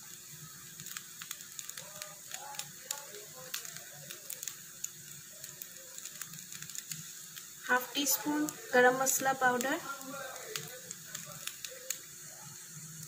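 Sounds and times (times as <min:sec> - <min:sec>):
rice and egg frying crackling: 0:00.0 - 0:13.0.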